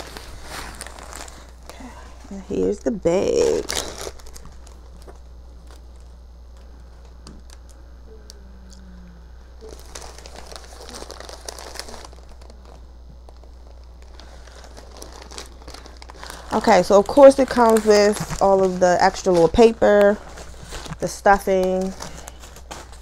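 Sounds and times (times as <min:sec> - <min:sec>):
paper crinkling: 0:00.0 - 0:07.8, 0:09.6 - 0:23.0.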